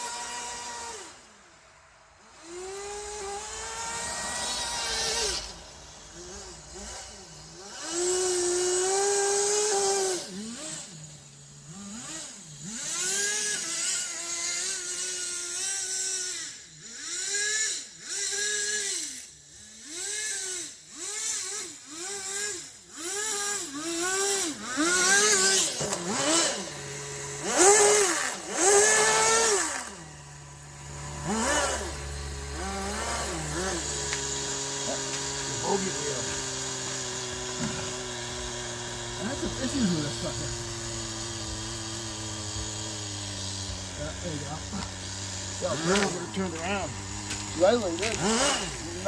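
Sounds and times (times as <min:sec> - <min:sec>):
small two-stroke engine revving: 0:00.0 - 0:49.0.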